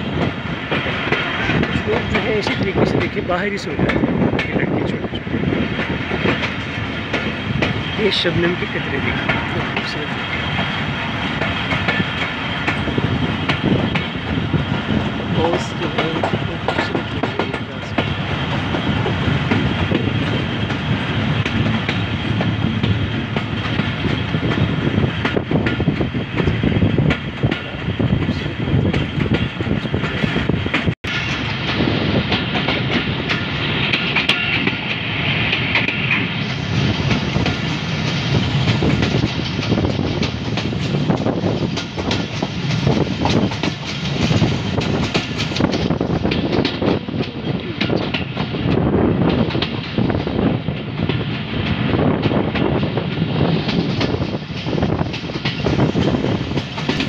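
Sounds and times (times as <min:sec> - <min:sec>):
train carriage rumble: 0:00.0 - 0:57.0.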